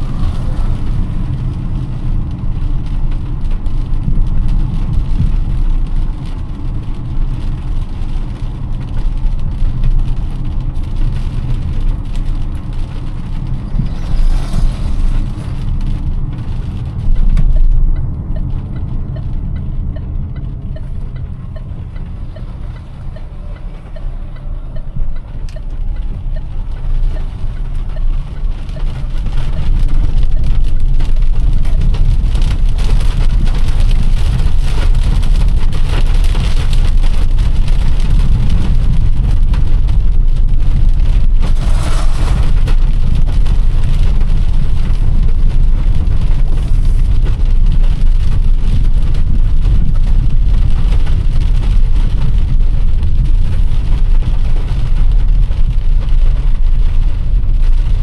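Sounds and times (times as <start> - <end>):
car engine and road noise: 0.0 - 58.0
rain falling on car: 0.0 - 58.0.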